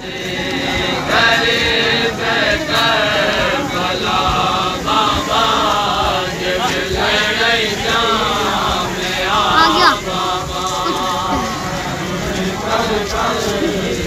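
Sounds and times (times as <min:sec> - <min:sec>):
men chanting together: 0:00.0 - 0:14.0.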